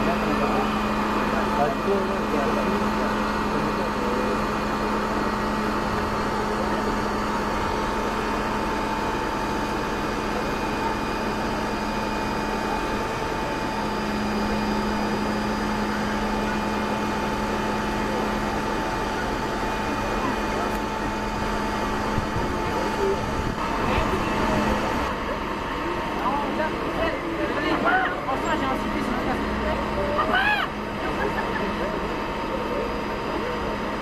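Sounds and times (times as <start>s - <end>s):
engine and hydraulics humming: 0.0s - 34.0s.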